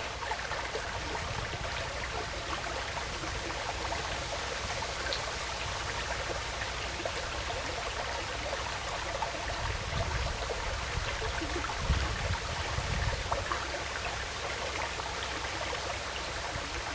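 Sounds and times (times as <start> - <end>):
stream trickling: 0.0 - 16.9.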